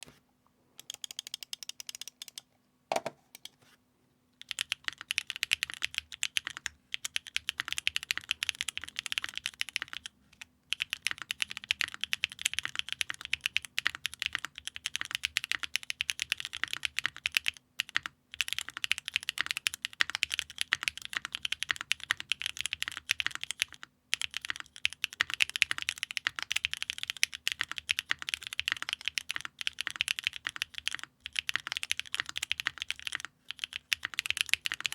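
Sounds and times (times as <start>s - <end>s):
typing on mechanical keyboard: 0.8s - 2.4s, 4.4s - 34.9s.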